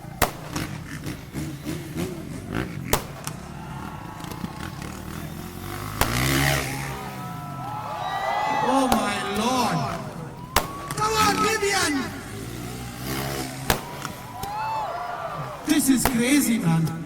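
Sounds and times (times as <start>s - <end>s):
motocross bike engine revving: 0.0s - 17.0s
sharp exhaust cracks: 0.0s - 17.0s.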